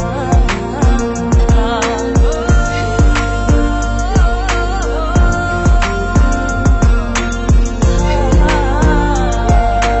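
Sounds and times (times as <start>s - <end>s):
deep drum beat: 0.0s - 4.5s, 5.2s - 10.0s
wavering sung melody: 0.0s - 10.0s.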